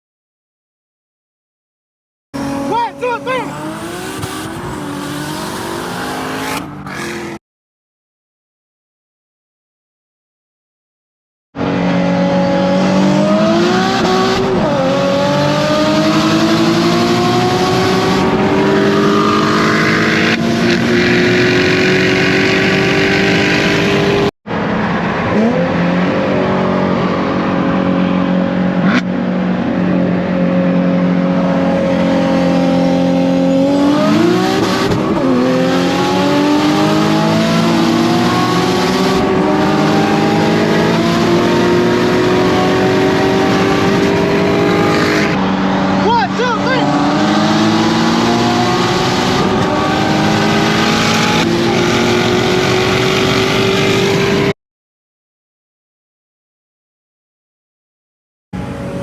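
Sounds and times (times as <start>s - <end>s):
sports car engine at full throttle: 2.4s - 7.4s, 11.6s - 54.5s, 58.6s - 59.0s.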